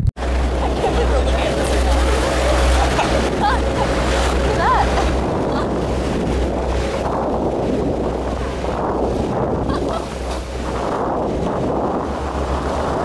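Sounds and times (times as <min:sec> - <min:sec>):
boat engine drone: 0:00.0 - 0:13.0
water rushing along hull: 0:00.0 - 0:13.0
wind buffeting microphone: 0:00.2 - 0:13.0.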